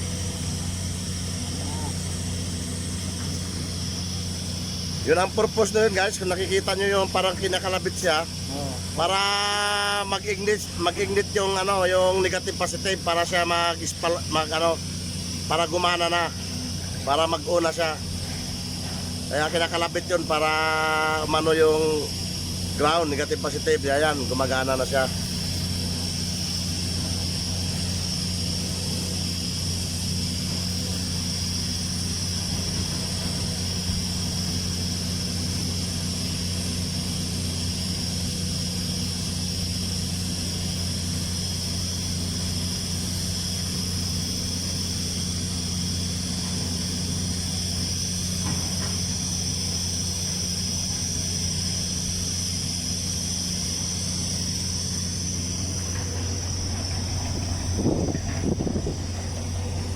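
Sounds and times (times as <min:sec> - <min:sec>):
low electrical hum: 0:00.0 - 0:59.9
welding arc hiss: 0:00.0 - 0:59.9.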